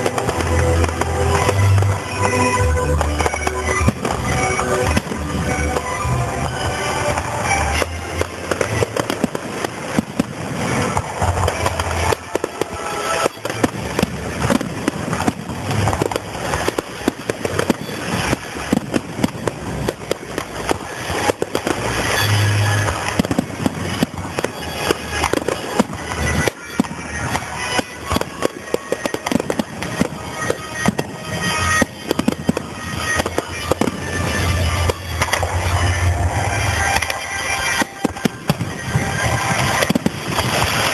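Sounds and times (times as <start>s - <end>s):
deep fireworks booms: 0.0s - 40.9s
fireworks crackling and popping: 0.0s - 40.9s
music playing: 0.0s - 40.9s.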